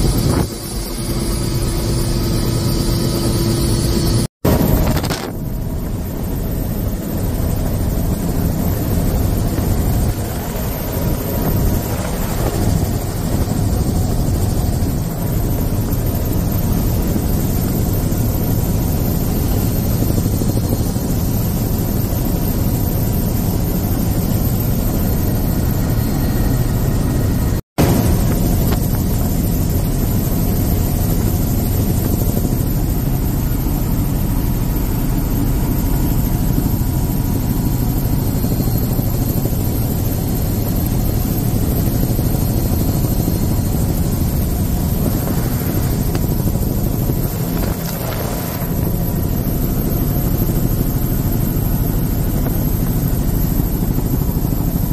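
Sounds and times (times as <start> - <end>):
helicopter engine and rotor drone: 0.0 - 54.9.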